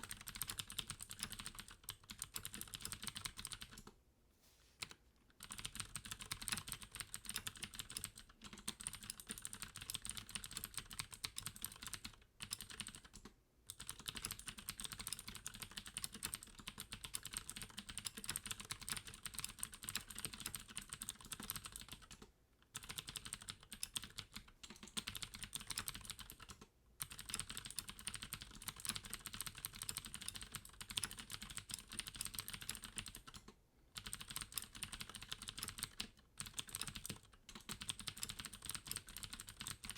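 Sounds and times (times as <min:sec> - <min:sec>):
fast mechanical keyboard typing: 0:00.0 - 0:03.9, 0:04.8 - 0:39.9.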